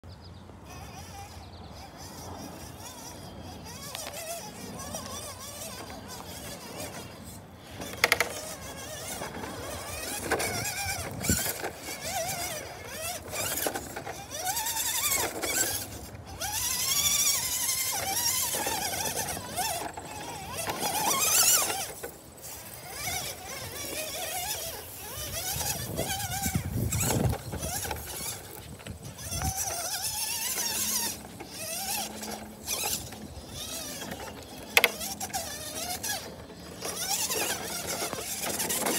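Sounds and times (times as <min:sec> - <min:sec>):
electric motor and gears whining: 0:00.4 - 0:38.9.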